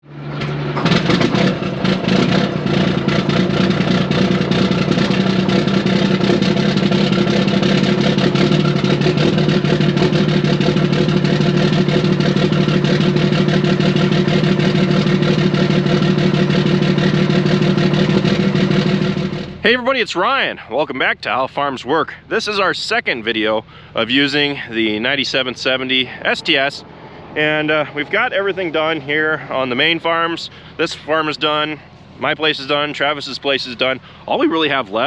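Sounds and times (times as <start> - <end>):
straight-piped truck engine running: 0.0 - 20.7, 21.5 - 35.0.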